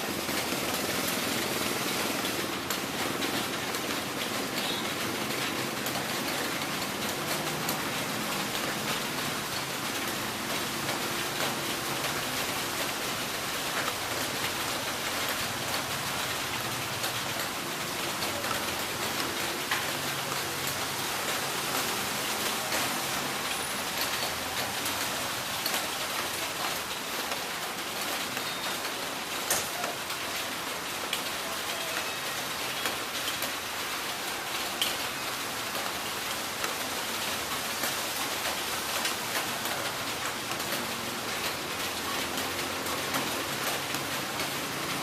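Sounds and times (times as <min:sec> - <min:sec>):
heavy rain falling: 0:00.0 - 0:45.0
raindrops ticking: 0:00.0 - 0:45.0.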